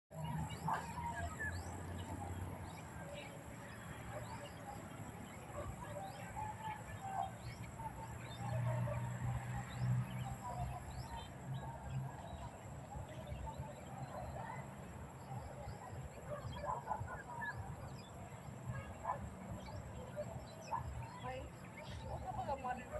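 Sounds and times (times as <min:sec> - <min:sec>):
flock of birds chirping: 0:00.1 - 0:22.9.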